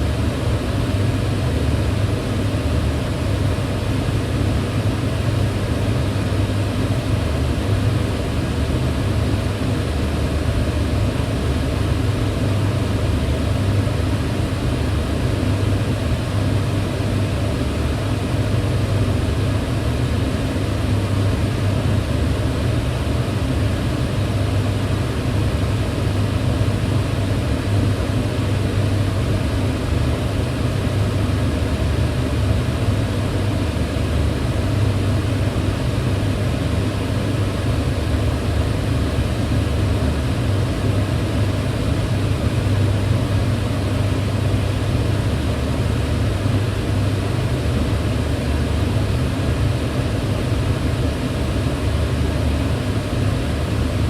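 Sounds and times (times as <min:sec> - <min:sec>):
range hood fan rushing air: 0:00.0 - 0:54.0.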